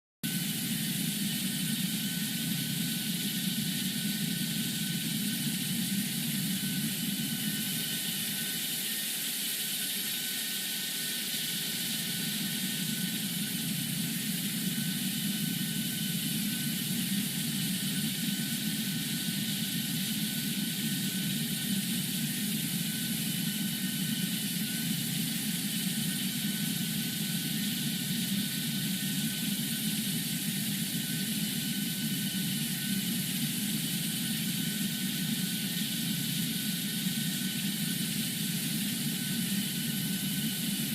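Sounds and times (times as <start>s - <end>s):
high-pitched jet whine: 0.3s - 40.9s.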